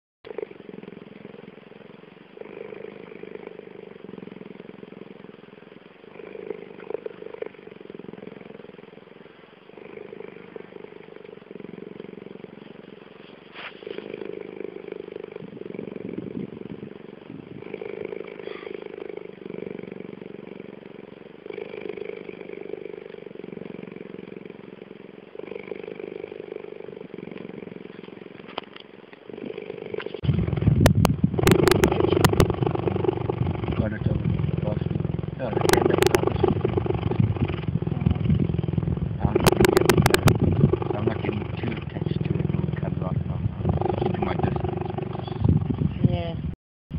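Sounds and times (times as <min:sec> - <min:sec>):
cheetah purring: 0:00.3 - 0:46.6.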